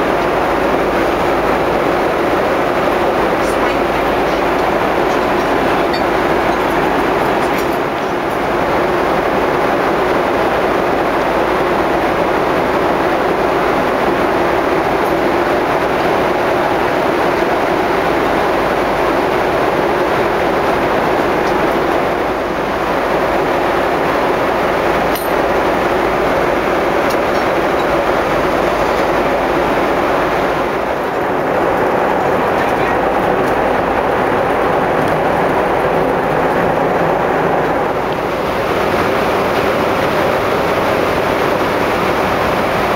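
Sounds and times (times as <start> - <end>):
airliner cabin rushing noise: 0.0 - 42.9.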